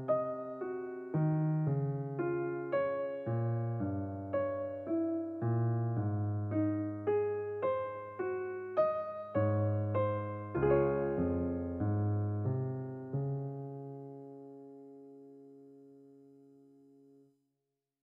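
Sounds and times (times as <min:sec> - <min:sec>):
electric piano melody: 0:00.0 - 0:16.8.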